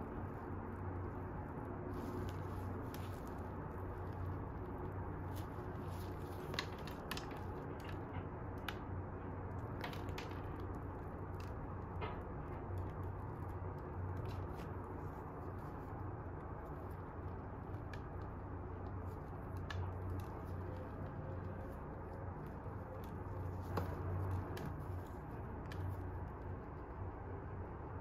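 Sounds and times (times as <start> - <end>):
bread tearing softly: 0.0 - 28.0
crumbly topping crackling: 0.0 - 28.0
steady low hum: 0.0 - 28.0.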